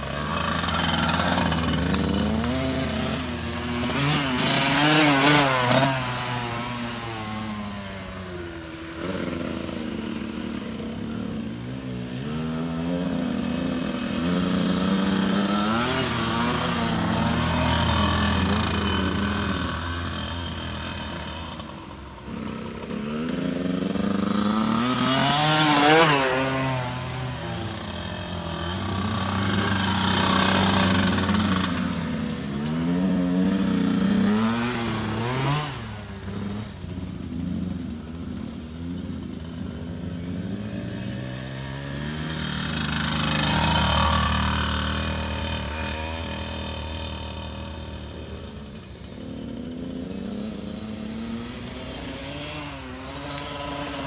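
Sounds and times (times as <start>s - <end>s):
dirt bikes revving past: 0.0s - 54.0s.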